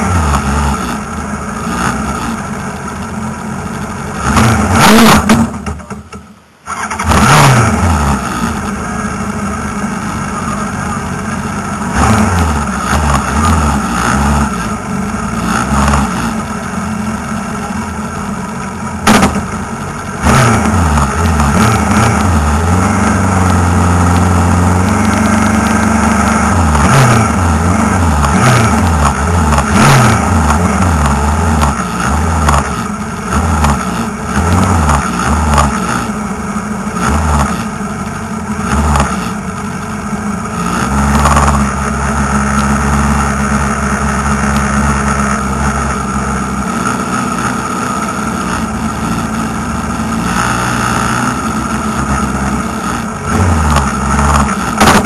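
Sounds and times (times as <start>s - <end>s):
racing car engine idling: 0.0s - 7.0s, 8.1s - 50.2s
engine throttle blips: 0.0s - 55.0s.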